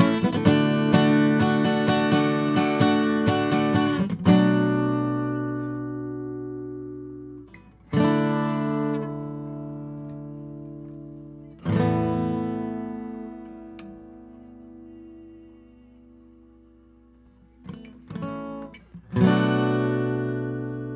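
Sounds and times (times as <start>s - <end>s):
acoustic guitar strumming: 0.0s - 20.9s.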